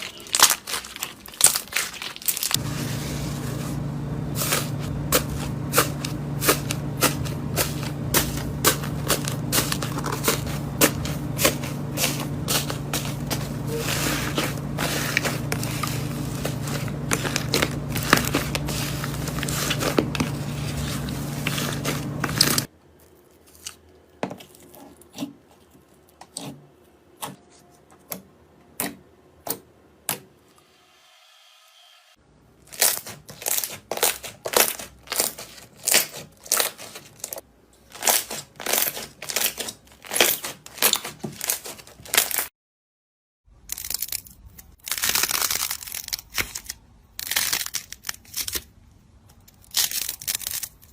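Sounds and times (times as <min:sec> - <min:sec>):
slime crackling and crunching: 0:00.0 - 0:03.6, 0:04.3 - 0:25.2, 0:32.6 - 0:42.5, 0:43.6 - 0:48.7, 0:49.5 - 0:50.9.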